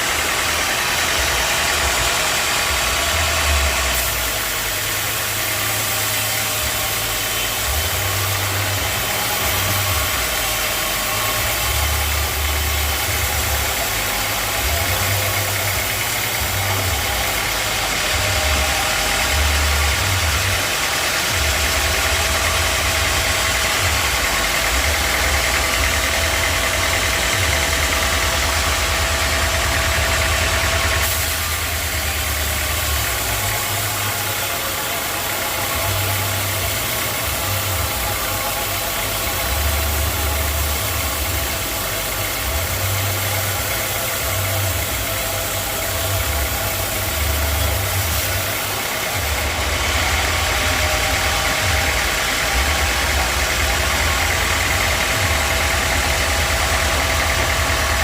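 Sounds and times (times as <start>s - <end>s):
sawmill saw humming and whining: 0.0s - 58.0s.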